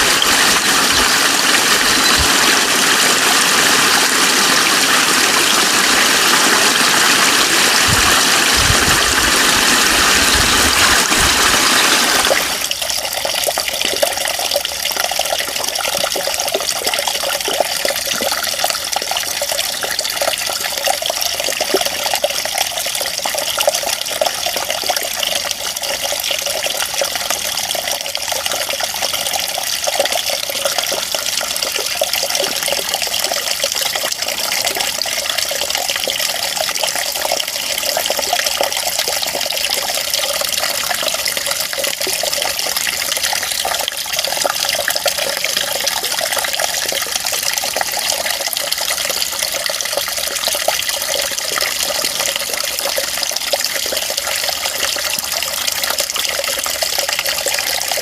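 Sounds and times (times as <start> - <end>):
water running: 0.0 - 58.0.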